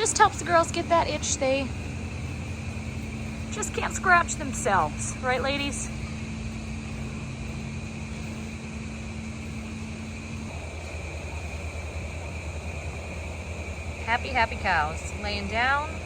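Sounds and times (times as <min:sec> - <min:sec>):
electric motor hum: 0:00.0 - 0:16.0.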